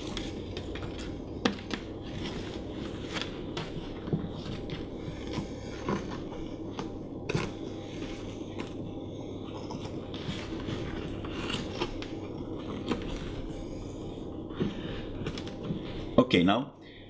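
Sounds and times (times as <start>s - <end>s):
twine rustling and scraping: 0.0s - 16.2s.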